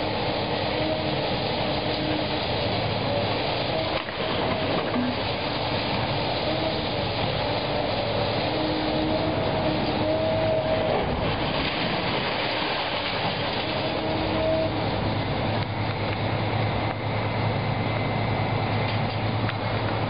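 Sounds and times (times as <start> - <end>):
demolition excavator machine noise: 0.0 - 20.0.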